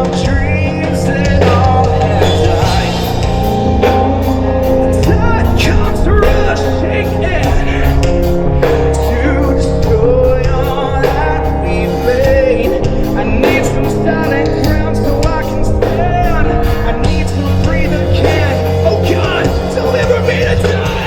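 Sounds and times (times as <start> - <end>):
rock band playing: 0.0 - 21.0
sung vocals: 0.0 - 21.0.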